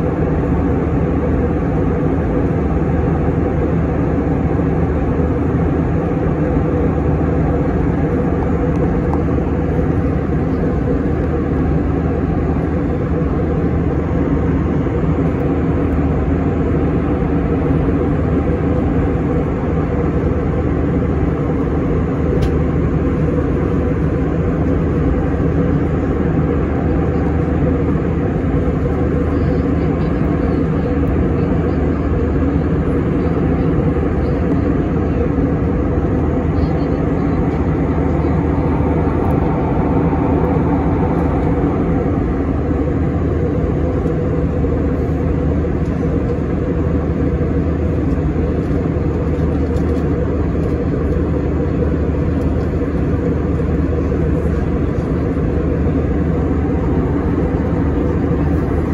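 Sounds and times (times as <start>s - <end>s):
airliner cabin noise: 0.0s - 58.9s.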